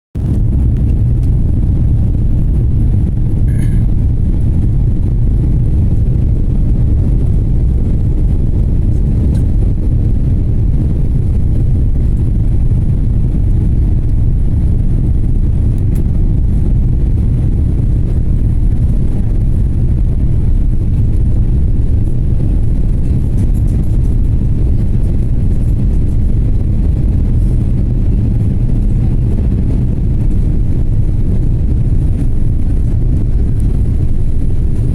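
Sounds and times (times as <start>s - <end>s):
airliner cabin engine rumble: 0.2s - 34.9s.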